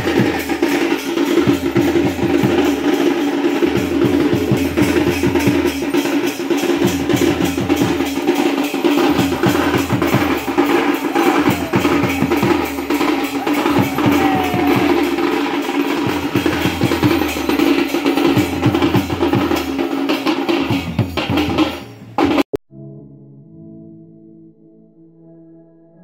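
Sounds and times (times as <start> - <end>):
fast drum beat: 0.0 - 22.4.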